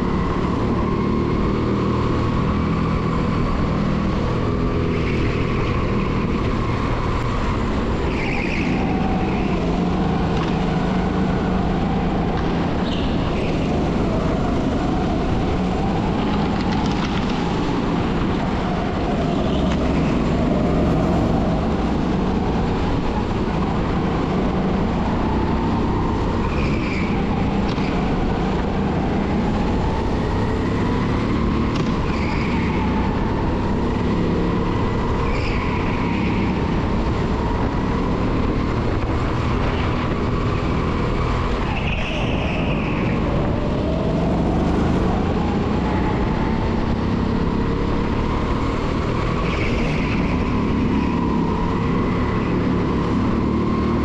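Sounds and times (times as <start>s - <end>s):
kart engine running hard: 0.0s - 54.0s.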